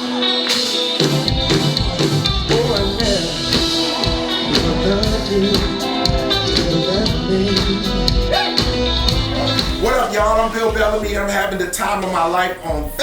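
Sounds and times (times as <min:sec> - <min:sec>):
up-tempo band music: 0:00.0 - 0:13.0
person singing: 0:02.2 - 0:13.0.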